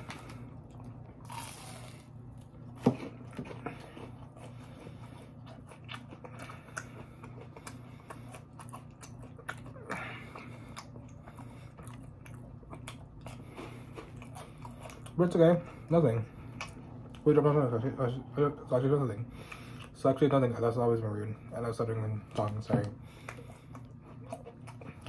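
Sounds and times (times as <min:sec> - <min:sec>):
person chewing food: 0:00.0 - 0:17.6, 0:19.2 - 0:20.4, 0:21.4 - 0:25.0
steady low hum: 0:00.0 - 0:25.0.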